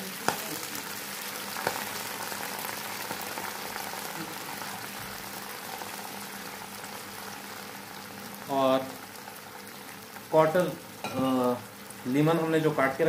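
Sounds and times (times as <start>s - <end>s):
water bubbling in frying pan: 0.0s - 13.0s.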